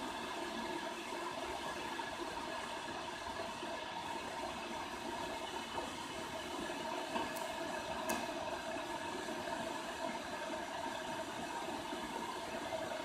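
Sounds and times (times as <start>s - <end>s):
electric kettle hiss and rumble: 0.0s - 13.0s.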